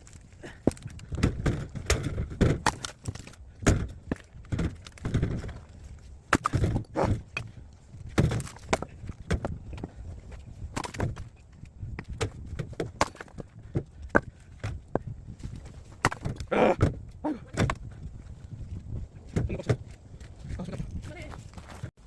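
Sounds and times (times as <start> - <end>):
firewood cracking: 0.0 - 18.9
wooden knocks and clatters: 0.6 - 21.9.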